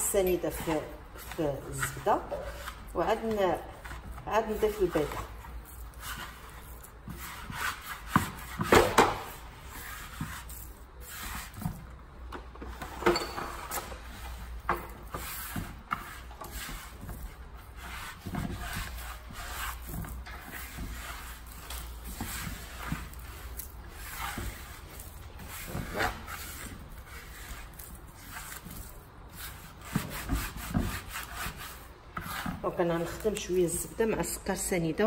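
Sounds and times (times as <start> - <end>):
sugar scraping on wooden bowl: 0.2 - 8.7, 9.3 - 11.8, 14.4 - 34.5.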